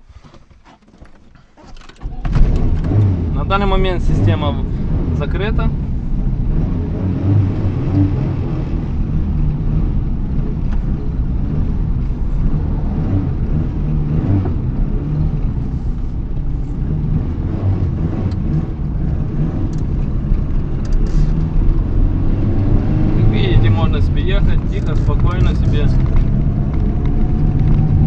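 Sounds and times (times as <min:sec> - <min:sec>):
car engine running: 0:02.0 - 0:28.0.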